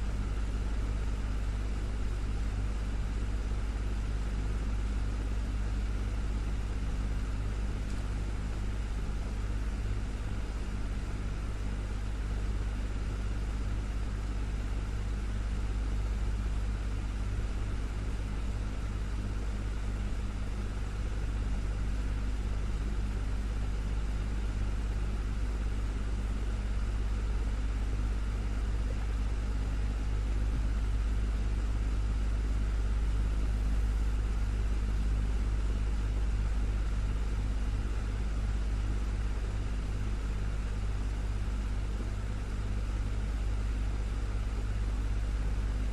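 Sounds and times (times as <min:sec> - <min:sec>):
desktop fan running: 0:00.0 - 0:45.9.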